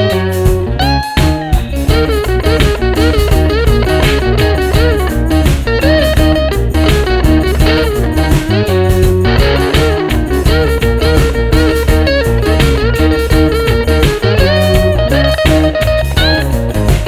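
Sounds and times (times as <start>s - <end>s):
guitar-led background music: 0.0s - 17.0s.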